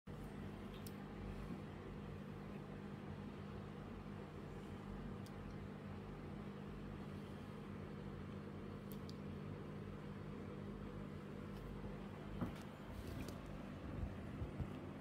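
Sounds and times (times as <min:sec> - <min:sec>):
aquarium filter humming: 0:00.1 - 0:15.0.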